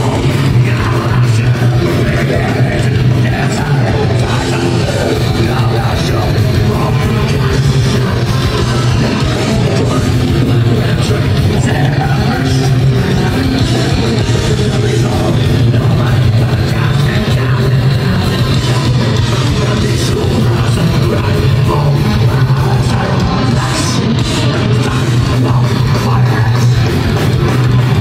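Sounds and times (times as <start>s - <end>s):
heavy metal band playing live: 0.0s - 28.0s.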